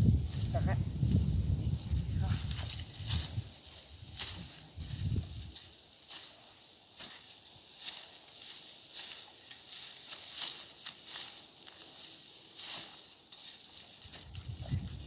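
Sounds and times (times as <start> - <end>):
dry cereal stalks rustling: 0.0 - 15.0.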